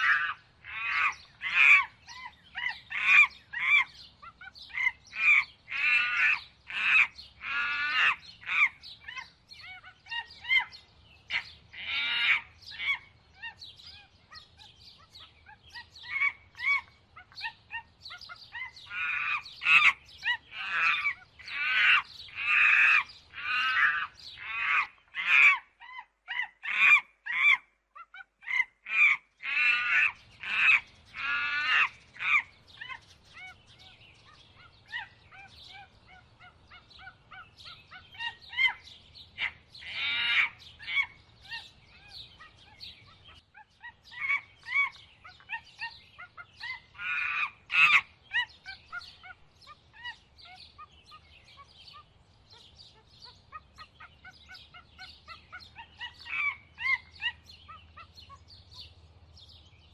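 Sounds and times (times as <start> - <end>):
birds chirping: 0.0 - 59.9
harsh wavering bird calls: 0.0 - 59.9.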